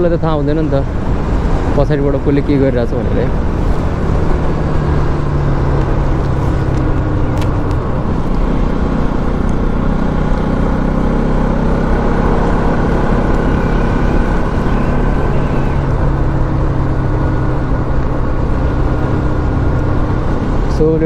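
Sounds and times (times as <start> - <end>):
motorcycle engine running: 3.2 - 21.0.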